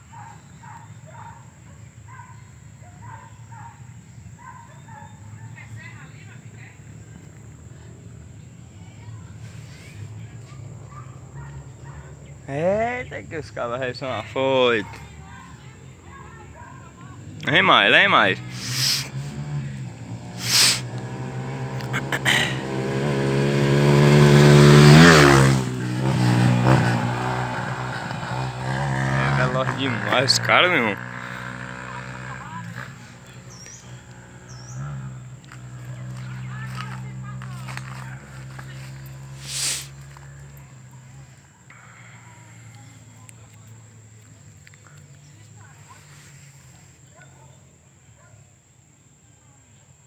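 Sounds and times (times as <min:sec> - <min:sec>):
dirt bike passing at speed: 0:00.0 - 0:47.8.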